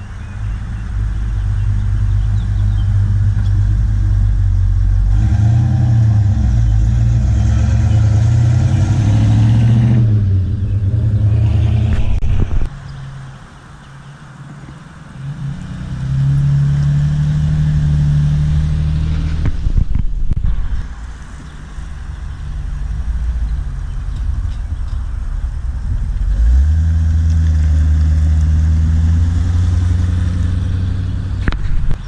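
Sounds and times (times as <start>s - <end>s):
car engines at low speed: 0.0s - 32.0s.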